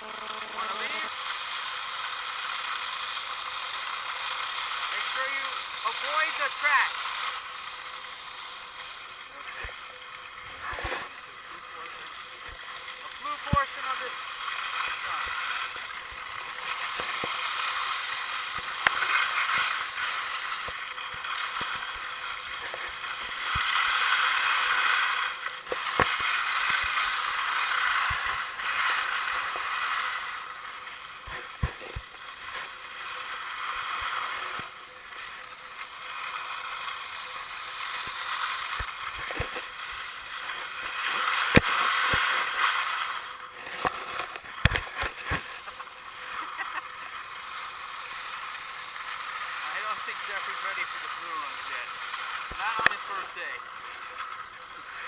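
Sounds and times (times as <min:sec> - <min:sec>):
skis hissing and scraping on snow: 0:00.0 - 0:55.0.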